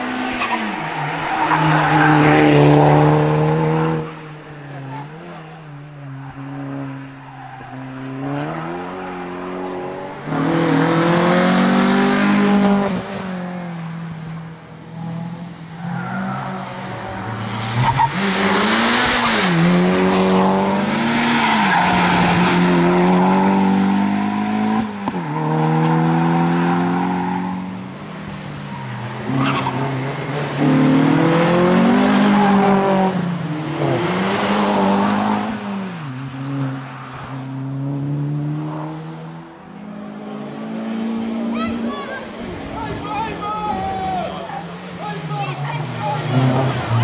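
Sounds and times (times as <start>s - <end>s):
car engine revving: 6.2s - 42.9s, 45.4s - 47.0s.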